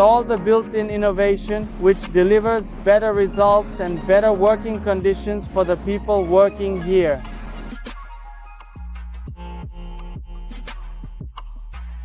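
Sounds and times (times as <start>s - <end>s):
electronic beat music: 0.0s - 12.0s.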